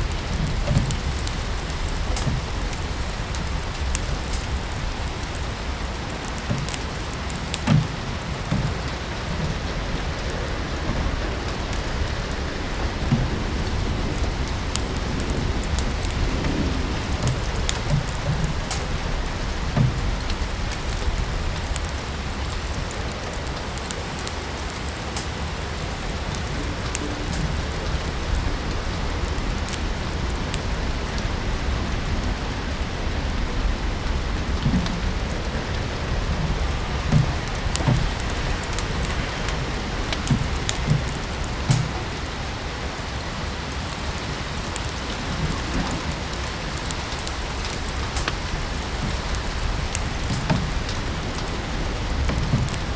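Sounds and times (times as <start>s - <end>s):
steady rain: 0.0s - 52.9s
wood fire crackling: 0.0s - 52.9s.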